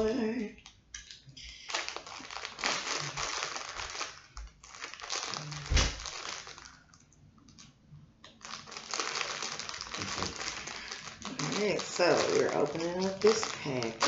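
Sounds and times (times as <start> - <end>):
wrapping crinkling and tearing: 0.6 - 14.0.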